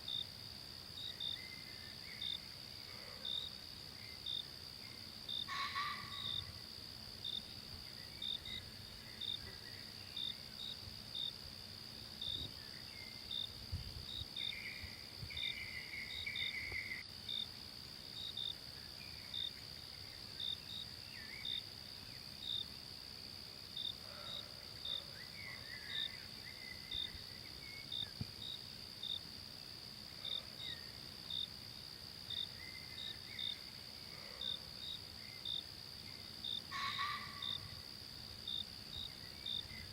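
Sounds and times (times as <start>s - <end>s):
cricket chirping: 0.0s - 39.9s
faint insect calls: 0.0s - 39.9s
insects trilling: 0.0s - 39.9s.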